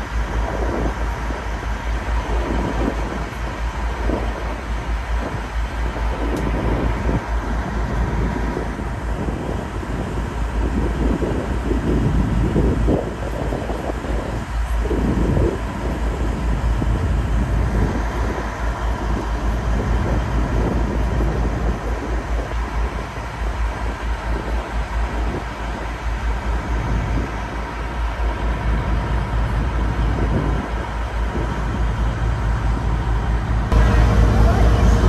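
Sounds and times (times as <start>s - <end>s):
boat engine rumble: 0.0s - 35.0s
faint steady whine: 0.0s - 35.0s
wind buffeting microphone: 0.0s - 35.0s.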